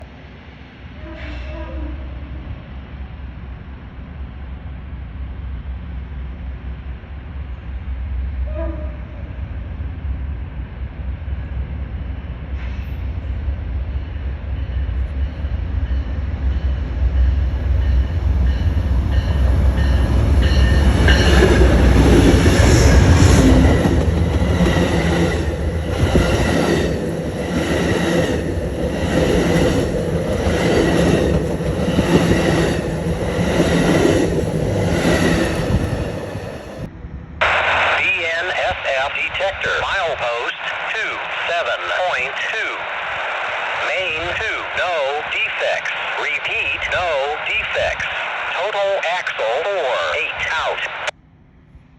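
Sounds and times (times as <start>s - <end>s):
passenger train passing: 0.0s - 51.9s.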